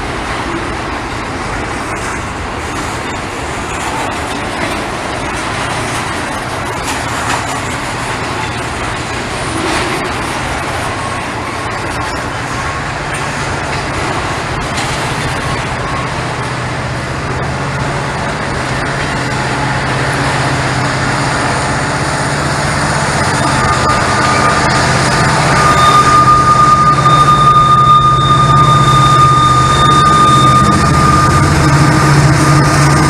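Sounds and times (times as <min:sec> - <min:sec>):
diesel locomotives droning: 0:00.0 - 0:33.0
high-pitched whine: 0:00.0 - 0:33.0.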